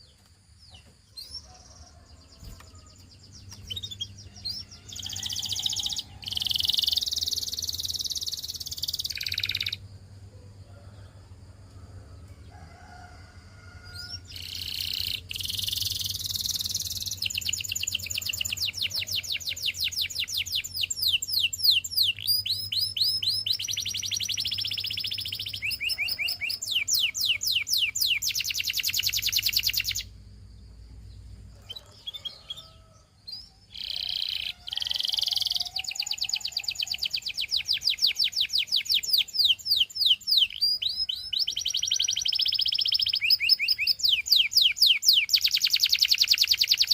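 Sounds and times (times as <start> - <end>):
canary singing trills: 0.0 - 9.9, 13.8 - 30.3, 31.0 - 46.9.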